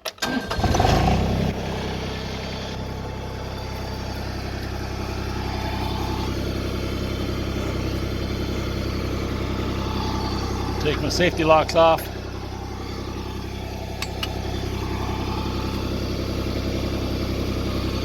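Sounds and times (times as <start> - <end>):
tractor engine starting and idling: 0.0 - 18.0.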